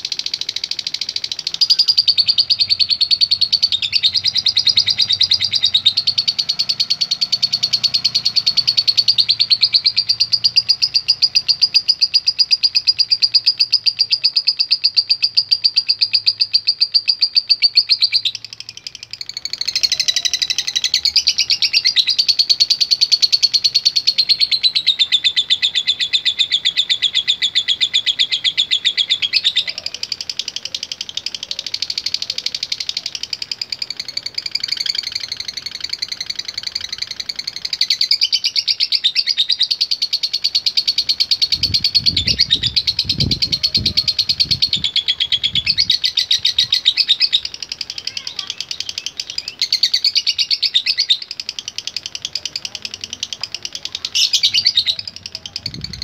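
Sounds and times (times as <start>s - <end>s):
bird chattering trill: 0.0s - 56.0s.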